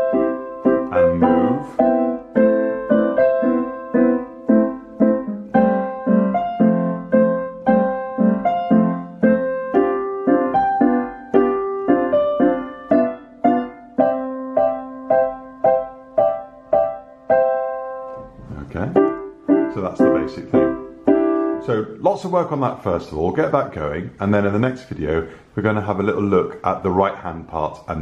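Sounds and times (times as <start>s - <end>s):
digital piano melody with chords: 0.0s - 27.7s.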